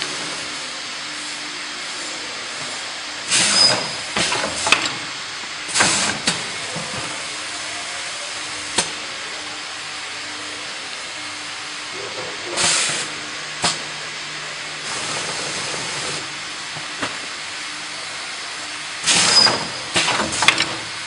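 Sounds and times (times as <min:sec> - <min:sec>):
packing machine running: 0:00.0 - 0:21.0.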